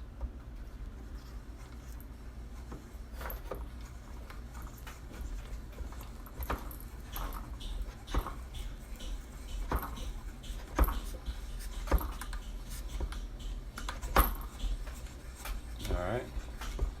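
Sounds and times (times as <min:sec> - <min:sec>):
light clicks and knocks: 0:01.7 - 0:17.0.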